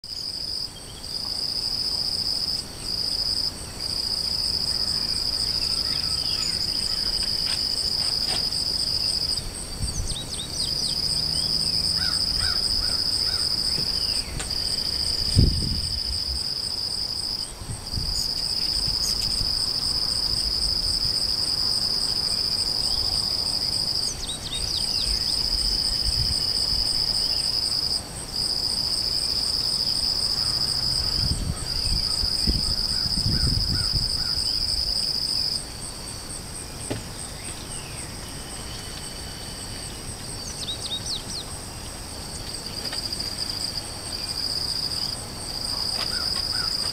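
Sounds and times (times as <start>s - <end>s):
insects trilling: 0.1s - 46.9s.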